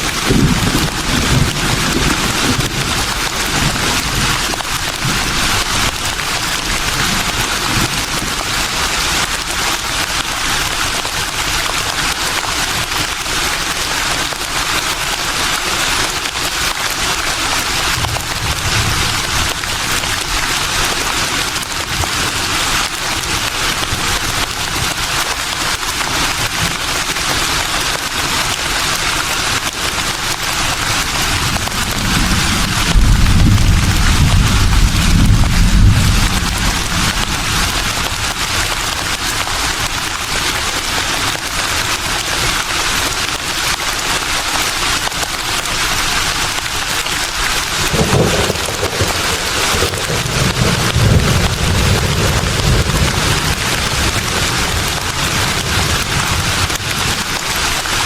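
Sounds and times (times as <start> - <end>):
leaves rustling in breeze: 0.0 - 58.0.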